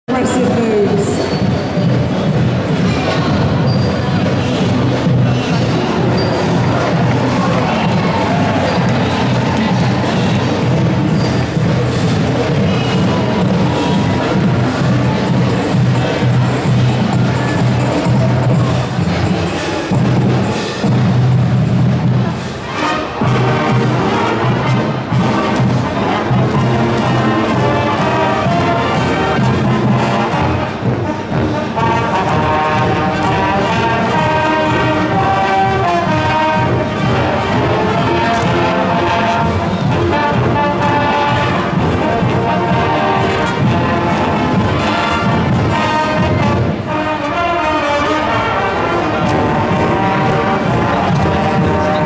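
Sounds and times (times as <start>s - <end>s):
marching band brass tune: 0.0s - 52.0s
steady drumbeat: 0.1s - 47.1s, 49.0s - 52.0s.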